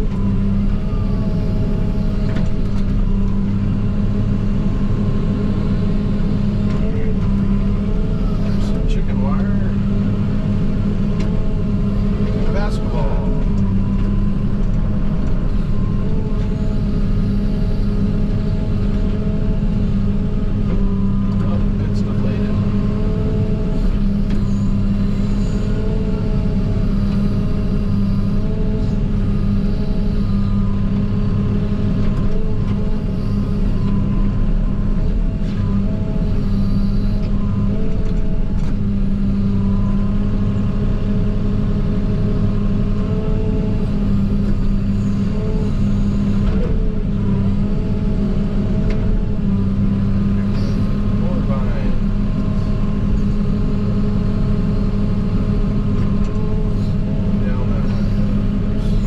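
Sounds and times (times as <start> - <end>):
diesel engine running: 0.0 - 59.0
wavering whine: 0.0 - 59.0.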